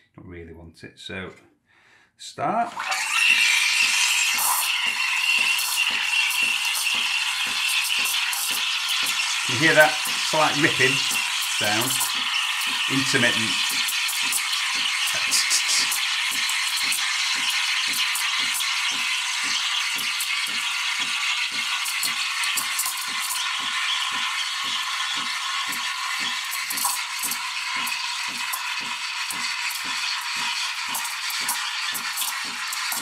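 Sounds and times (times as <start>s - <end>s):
steam wand hissing: 2.7s - 33.0s
rhythmic pulsing: 3.6s - 33.0s.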